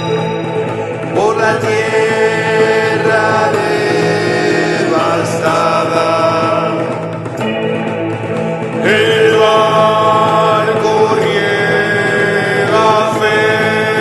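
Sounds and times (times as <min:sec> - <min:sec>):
chant-like vocal line: 0:00.0 - 0:07.6, 0:08.3 - 0:14.0
low drone: 0:00.0 - 0:14.0.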